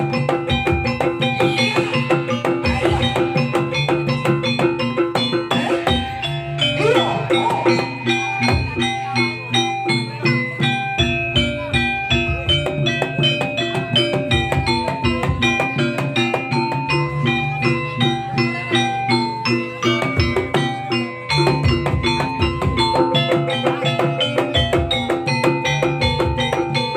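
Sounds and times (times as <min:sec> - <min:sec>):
metallophones and gong-chimes playing: 0:00.0 - 0:26.9
steady drumming: 0:00.0 - 0:26.9.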